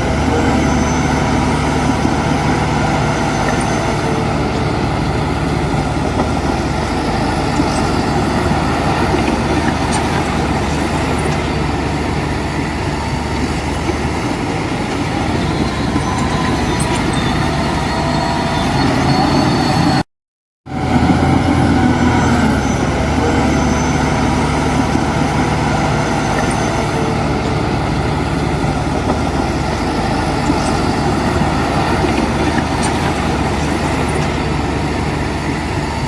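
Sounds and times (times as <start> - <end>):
diesel machinery engine drone: 0.0 - 20.1, 20.7 - 36.0.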